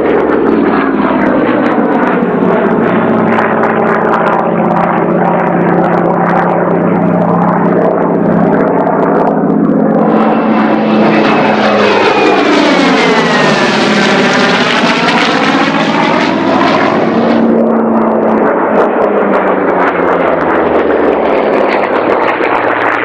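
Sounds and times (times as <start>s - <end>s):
propeller plane flyby: 0.0s - 23.0s.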